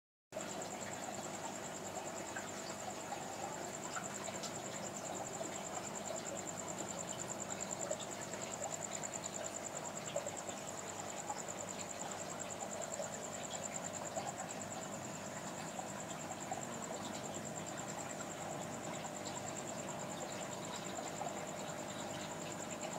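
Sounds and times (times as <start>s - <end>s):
air pump and filter hum: 0.4s - 22.9s.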